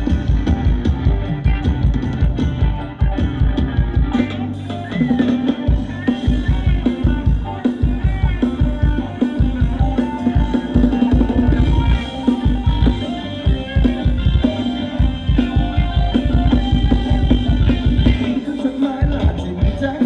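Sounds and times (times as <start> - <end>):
live band dance music: 0.0 - 20.0
steady drum beat: 0.0 - 20.0.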